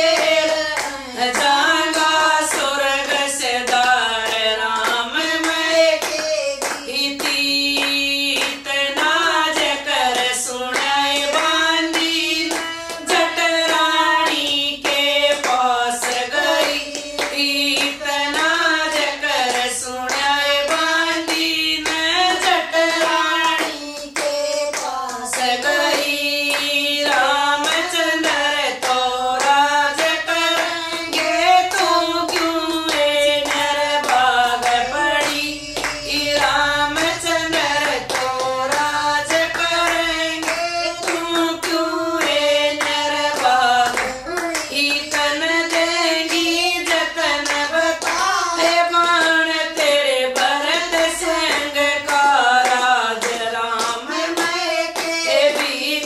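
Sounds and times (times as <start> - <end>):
hand claps: 0.0 - 56.0
women singing in unison: 0.0 - 56.0.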